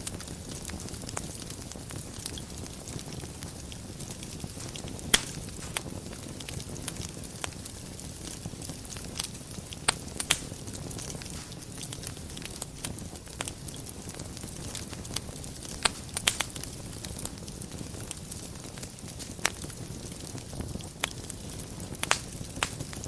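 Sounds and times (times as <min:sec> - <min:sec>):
fire crackling and popping: 0:00.0 - 0:23.0
fire flames rumbling: 0:00.0 - 0:23.0.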